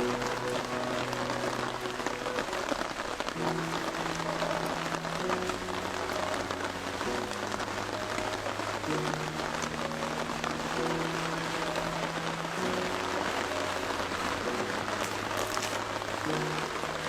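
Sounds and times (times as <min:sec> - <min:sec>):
heavy rain falling: 0:00.0 - 0:17.0
soft music with held chords: 0:00.0 - 0:17.0.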